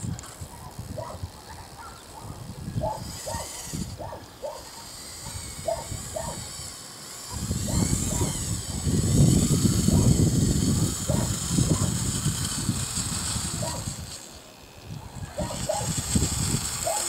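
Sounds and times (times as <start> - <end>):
small motors running: 0.0 - 17.0.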